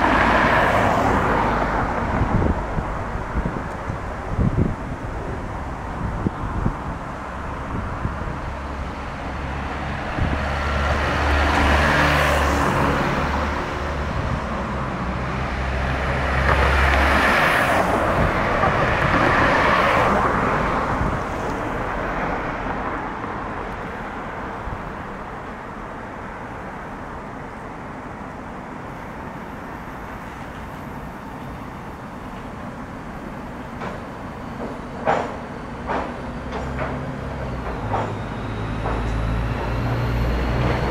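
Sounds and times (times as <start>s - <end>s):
cars passing: 0.0s - 40.9s
steady traffic hum: 0.0s - 40.9s.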